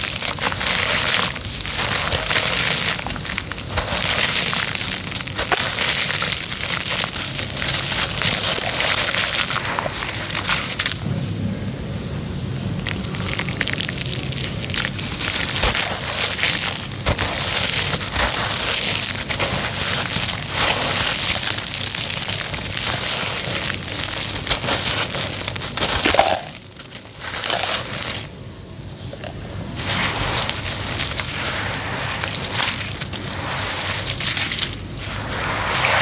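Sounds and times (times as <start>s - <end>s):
cement crushing and crumbling: 0.0s - 11.1s, 12.5s - 36.0s.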